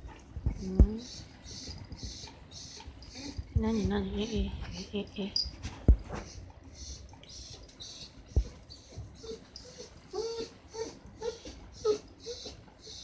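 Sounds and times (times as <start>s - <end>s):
dog whimpering: 0.6s - 4.9s, 6.1s - 13.0s.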